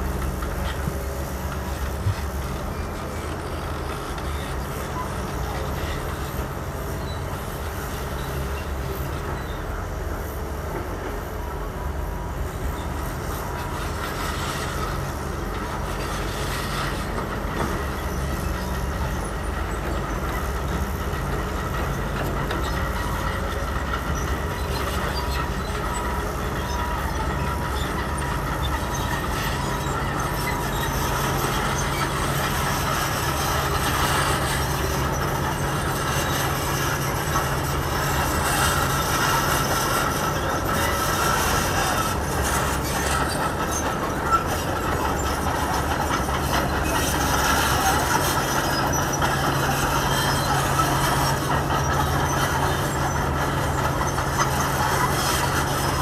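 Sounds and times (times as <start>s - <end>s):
excavator diesel engines droning: 0.0s - 56.0s.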